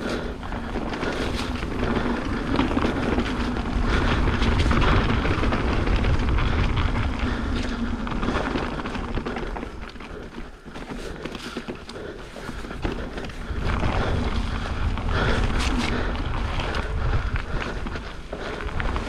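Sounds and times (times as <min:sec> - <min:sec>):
wind rushing over microphone: 0:00.0 - 0:10.3, 0:12.6 - 0:19.0
bike tyre noise on dirt: 0:00.0 - 0:19.0.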